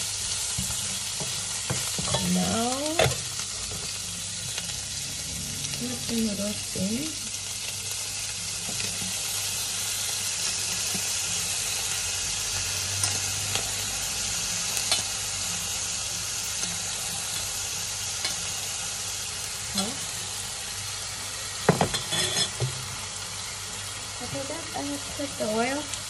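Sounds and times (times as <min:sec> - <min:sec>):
frying pan sizzling: 0:00.0 - 0:26.0.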